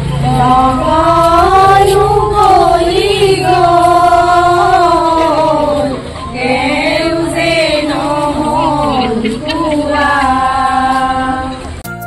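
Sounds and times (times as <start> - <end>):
women singing in unison: 0.0 - 11.8.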